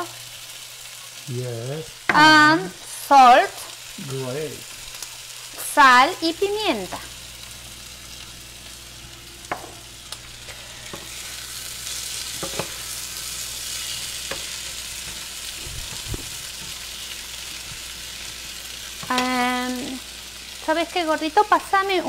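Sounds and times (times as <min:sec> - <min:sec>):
oil sizzling in skillets: 0:00.0 - 0:22.0.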